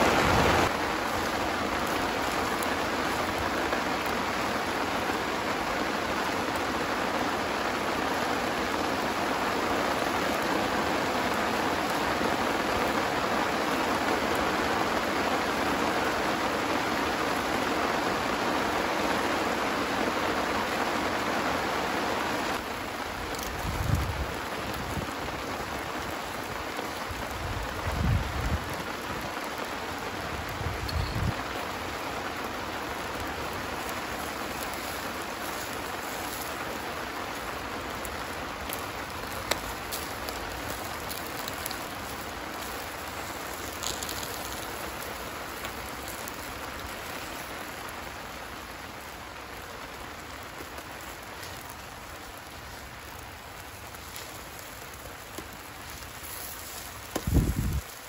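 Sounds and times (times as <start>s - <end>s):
sharp crackle: 0.0s - 20.8s, 21.6s - 58.0s
meat sizzling on charcoal grill: 0.1s - 21.9s, 22.6s - 58.0s.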